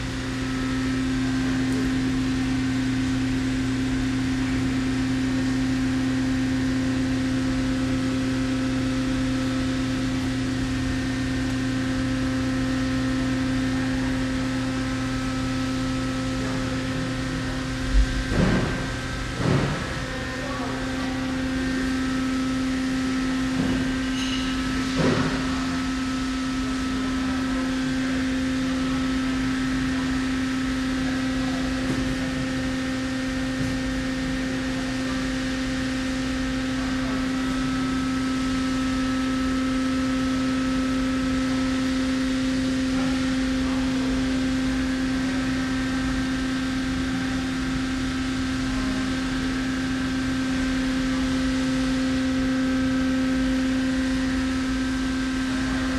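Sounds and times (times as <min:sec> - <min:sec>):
lathe idling hum: 0:00.0 - 0:55.9.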